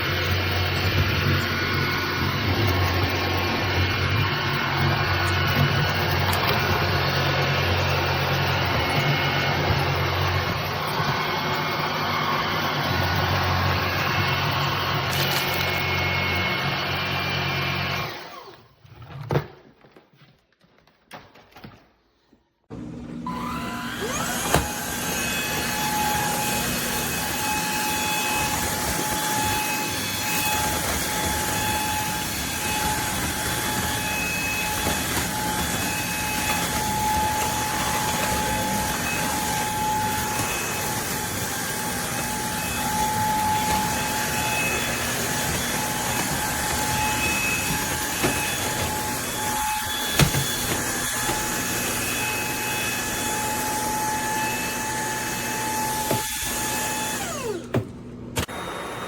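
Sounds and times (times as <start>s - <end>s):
cordless vacuum cleaner running: 0.0s - 18.6s, 22.7s - 59.0s.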